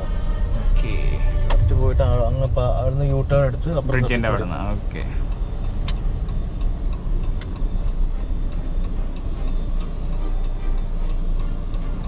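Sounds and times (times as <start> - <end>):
car cabin engine and road noise: 0.0 - 12.0.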